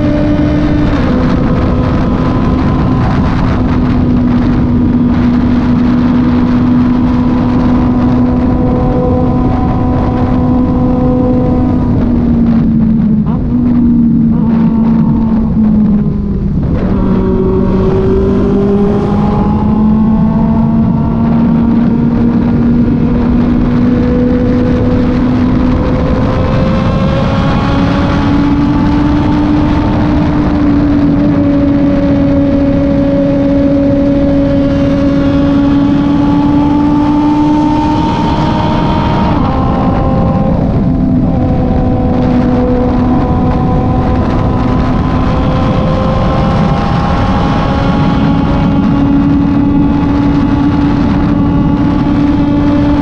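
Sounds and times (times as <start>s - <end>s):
motorcycle engine running: 0.0s - 53.0s
wind and road rush: 0.0s - 53.0s.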